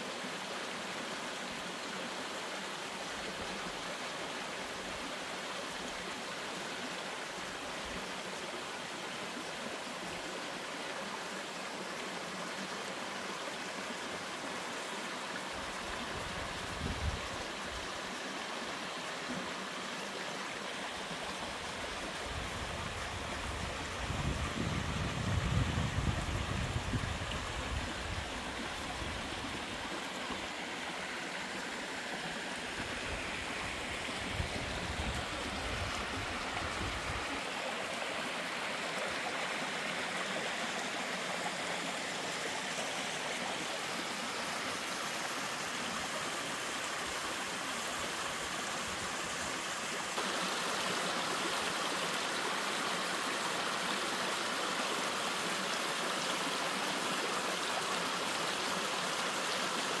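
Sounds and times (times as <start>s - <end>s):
water running over rocks: 1.2s - 60.0s.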